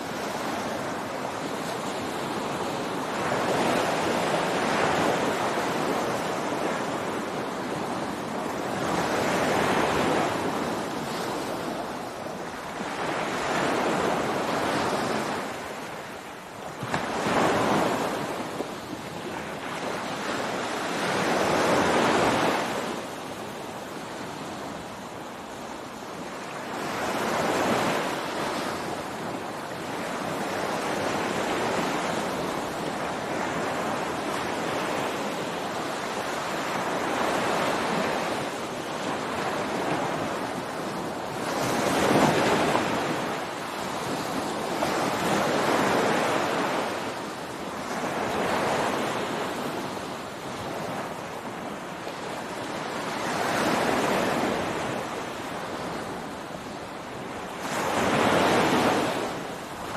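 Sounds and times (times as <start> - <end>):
ocean waves breaking on beach: 0.0 - 59.9
wind noise on microphone: 0.0 - 59.9.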